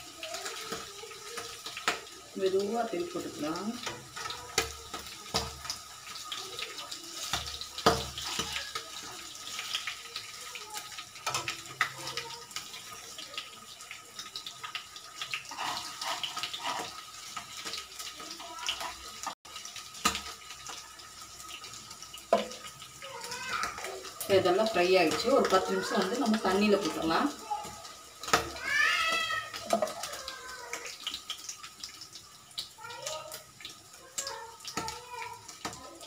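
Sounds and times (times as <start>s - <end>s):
cheese sizzling in hot oil: 0.0s - 36.0s.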